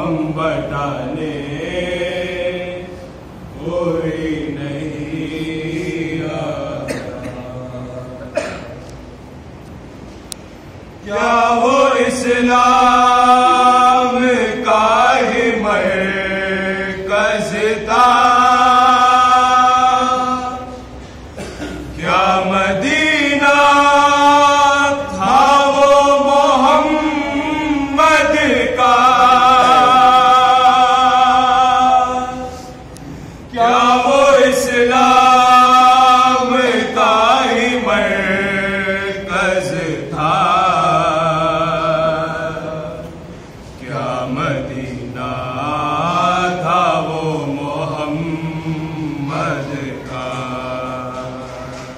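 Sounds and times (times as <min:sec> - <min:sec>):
man singing unaccompanied: 0:00.0 - 0:08.3, 0:11.0 - 0:20.9, 0:22.0 - 0:32.9, 0:33.5 - 0:43.1, 0:43.8 - 0:51.9.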